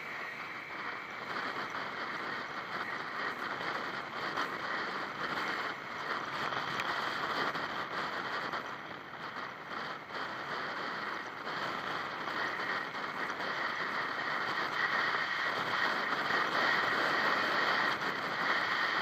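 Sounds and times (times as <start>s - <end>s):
road and wind noise of vehicle: 0.0s - 19.0s.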